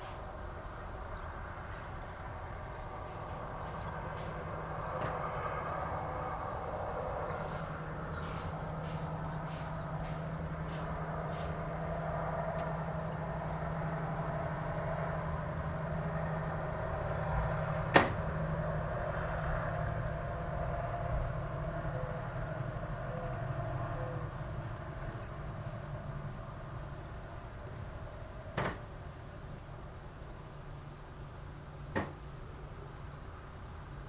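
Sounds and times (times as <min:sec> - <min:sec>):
low hum and rumble: 0:00.0 - 0:34.0.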